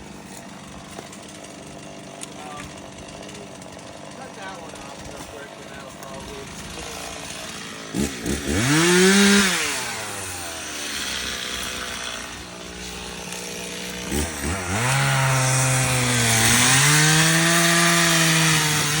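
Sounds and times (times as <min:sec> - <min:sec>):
chainsaw cutting log: 0:00.0 - 0:19.0
chainsaw revving and idling: 0:00.0 - 0:19.0.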